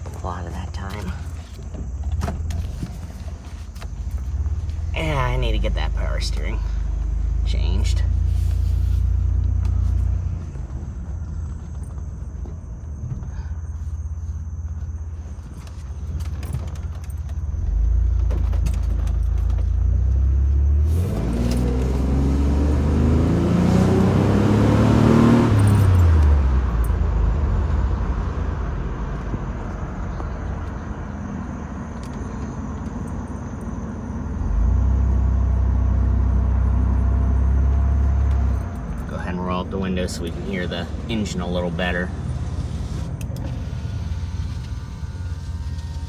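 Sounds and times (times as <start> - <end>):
van engine and road rumble: 0.0 - 46.0.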